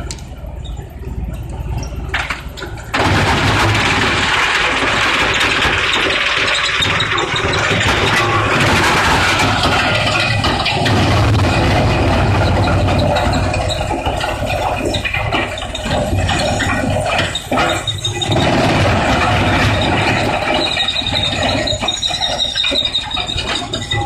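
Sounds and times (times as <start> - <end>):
wood shredder grinding: 3.0 - 24.0
high-pitched squeal: 3.9 - 24.0.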